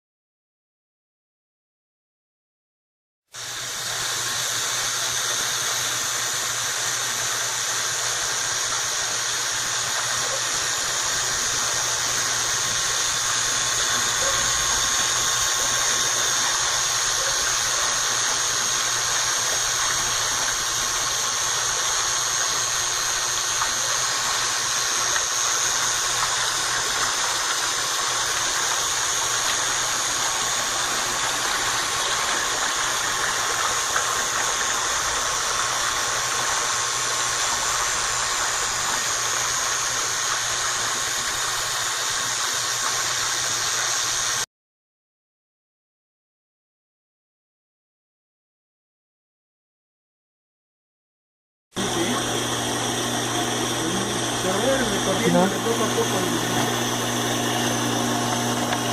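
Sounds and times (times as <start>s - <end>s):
water hiss: 3.4s - 44.4s, 51.8s - 58.9s
water pump running: 3.4s - 44.4s, 51.8s - 58.9s.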